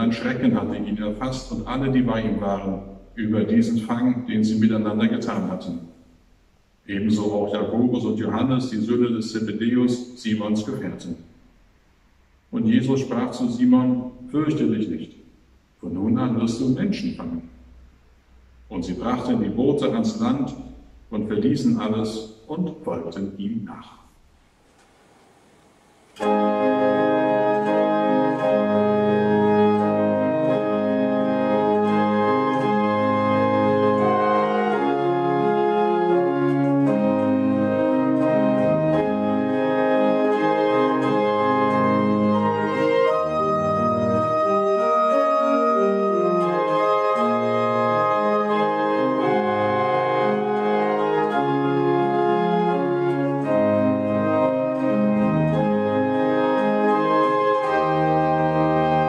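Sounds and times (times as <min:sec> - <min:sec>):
church pipe organ playing chords: 0:00.0 - 0:06.0, 0:06.6 - 0:11.4, 0:18.6 - 0:59.0.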